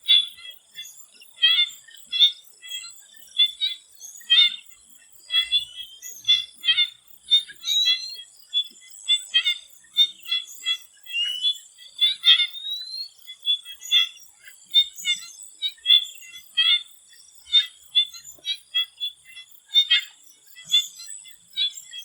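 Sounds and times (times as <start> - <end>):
frogs calling: 0.0 - 22.0.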